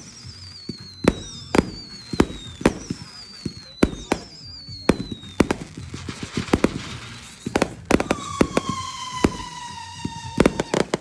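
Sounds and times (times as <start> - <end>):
fireworks popping and banging: 0.0 - 11.0
whistling firework: 0.0 - 11.0.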